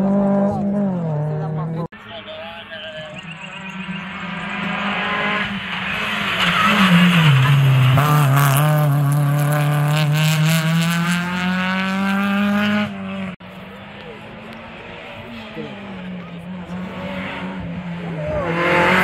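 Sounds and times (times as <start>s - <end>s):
car engine under hard throttle: 0.0s - 1.9s, 3.1s - 19.0s.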